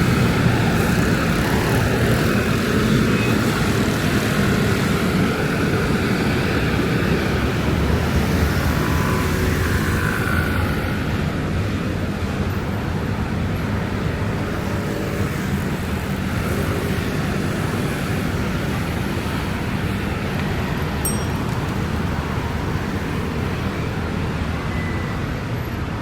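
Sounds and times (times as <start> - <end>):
city traffic rumble on wet streets: 0.0 - 26.0.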